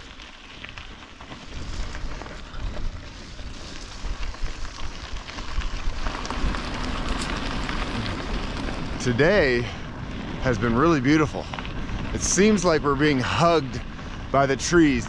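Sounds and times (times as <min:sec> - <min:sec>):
bicycle tyres crackling on gravel: 0:00.0 - 0:15.0
wind buffeting microphone: 0:00.8 - 0:15.0.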